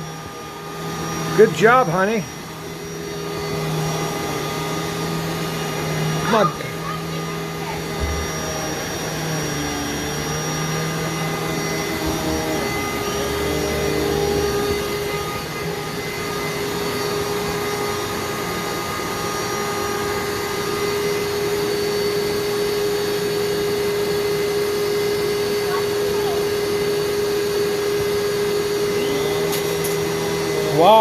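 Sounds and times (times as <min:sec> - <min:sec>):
vacuum cleaner on carpet: 0:00.0 - 0:31.0.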